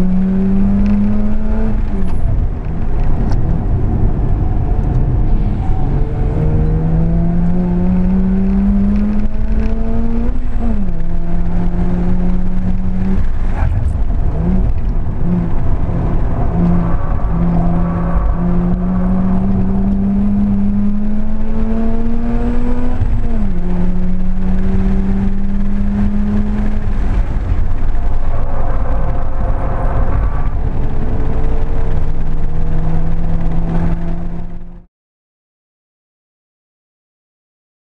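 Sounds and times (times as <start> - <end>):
rotary engine revving: 0.0 - 34.8.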